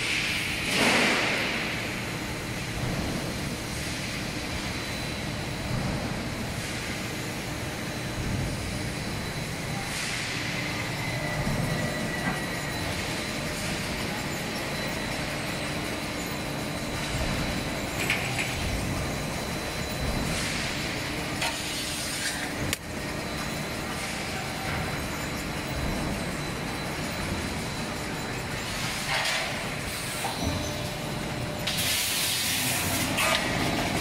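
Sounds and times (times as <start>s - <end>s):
conveyor machinery rumble: 0.0s - 34.0s
thin high whine: 2.5s - 34.0s.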